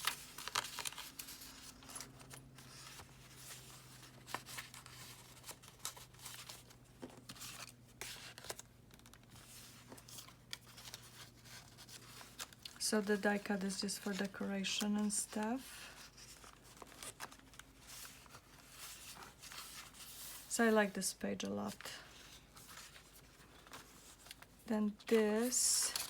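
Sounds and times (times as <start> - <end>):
paper pages rustling: 0.0 - 20.5, 21.7 - 26.0.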